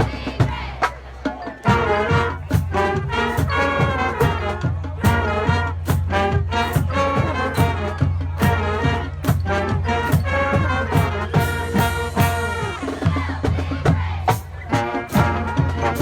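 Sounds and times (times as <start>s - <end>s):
marching band playing: 0.0s - 16.0s
steady drum beat: 0.0s - 16.0s.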